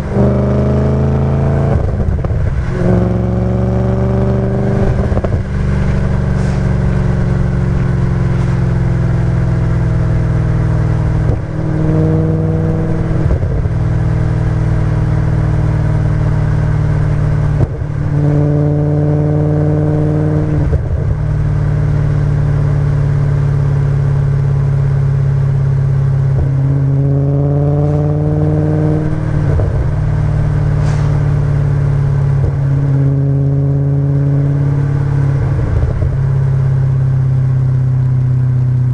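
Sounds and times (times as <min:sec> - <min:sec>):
car engine revving through gears: 0:00.0 - 0:37.0.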